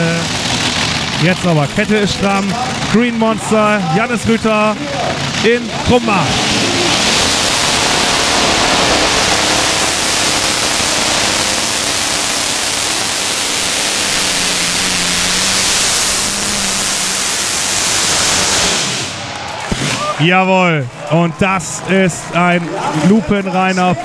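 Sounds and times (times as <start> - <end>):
tractor engines roaring: 0.0 - 24.0.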